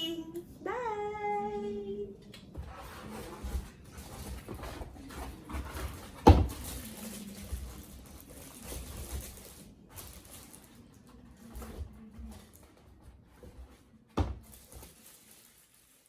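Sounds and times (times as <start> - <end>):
faint rustling and handling: 2.5 - 16.0.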